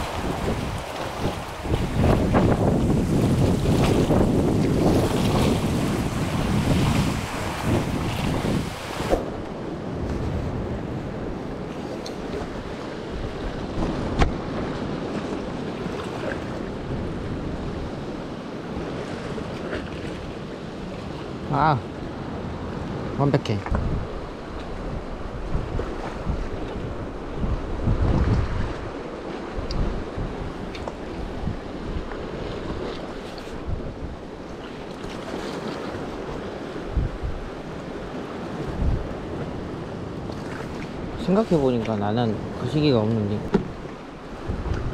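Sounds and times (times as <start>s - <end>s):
sea washing against rocks: 0.0s - 21.8s, 23.7s - 44.9s
wind buffeting microphone: 0.0s - 44.9s.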